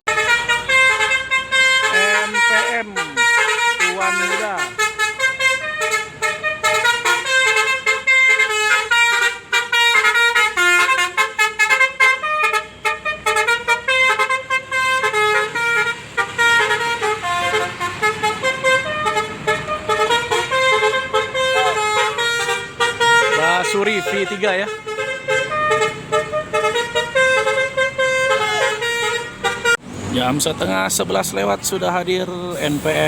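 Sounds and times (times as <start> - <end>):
multi-tone bus horn melody: 0.0 - 29.9.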